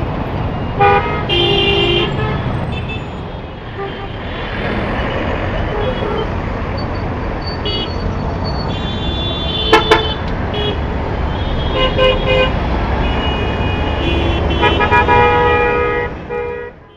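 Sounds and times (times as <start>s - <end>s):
heavy road traffic rumbling: 0.0s - 16.9s
vehicle horns honking: 0.8s - 4.3s, 5.2s - 6.4s, 7.4s - 16.9s.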